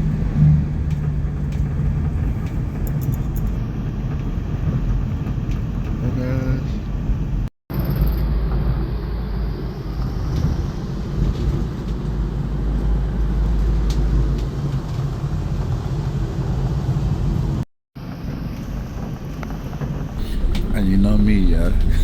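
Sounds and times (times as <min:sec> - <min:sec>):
car driving on road: 0:00.0 - 0:22.0.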